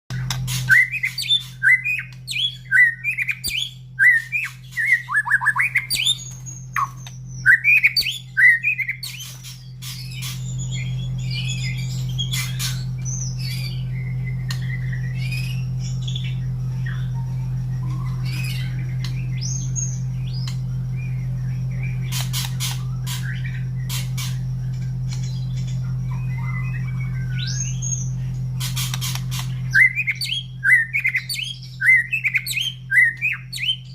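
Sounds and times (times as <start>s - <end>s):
songbird singing: 0.1s - 33.9s
steady low hum: 0.1s - 33.9s.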